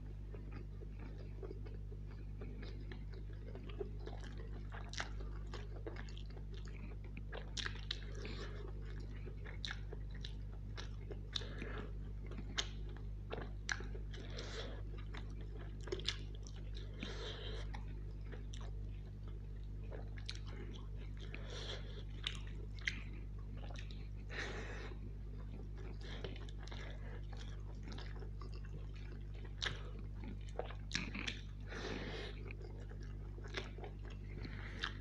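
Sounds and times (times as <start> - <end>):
steady low hum: 0.0 - 35.0
wet chewing with mouth smacks: 0.3 - 35.0.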